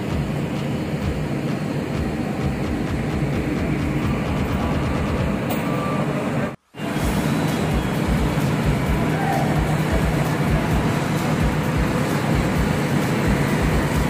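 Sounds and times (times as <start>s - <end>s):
heavy engines rumbling: 0.0s - 14.0s.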